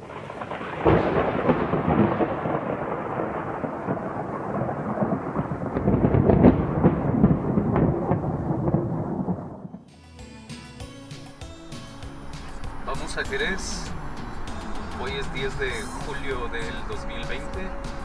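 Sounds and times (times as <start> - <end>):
rain: 0.0 - 9.8, 11.8 - 18.0
rumbling crackling thunder: 0.0 - 9.9, 11.8 - 18.0.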